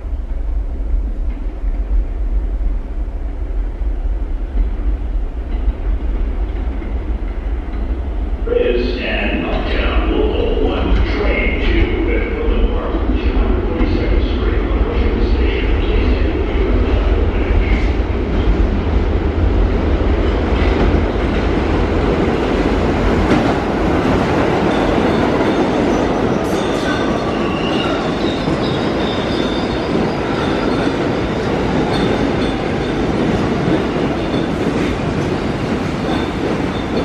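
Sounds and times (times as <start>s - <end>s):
subway train wheels rumbling: 0.0s - 37.0s.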